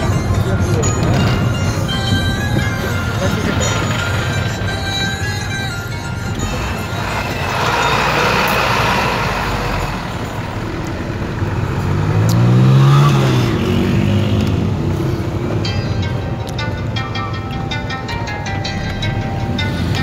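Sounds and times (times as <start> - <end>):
vehicle engine passing: 0.0 - 16.2
road rush: 0.0 - 20.0.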